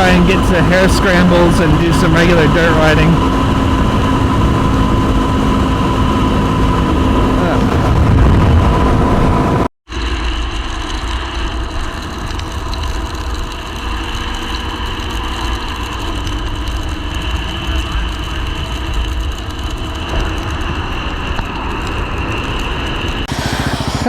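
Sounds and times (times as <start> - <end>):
motorcycle engine running: 0.0 - 9.7, 11.8 - 24.0.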